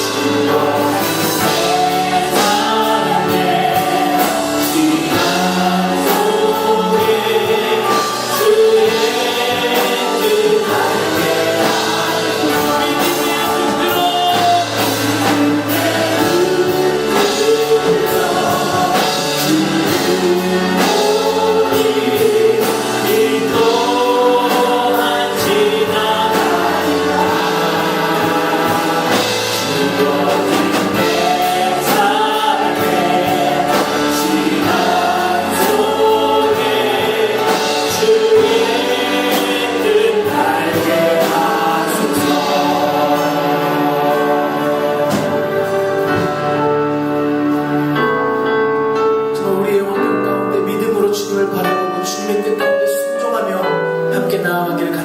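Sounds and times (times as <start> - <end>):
group singing worship song: 0.0 - 48.0
instrumental accompaniment: 0.0 - 55.0.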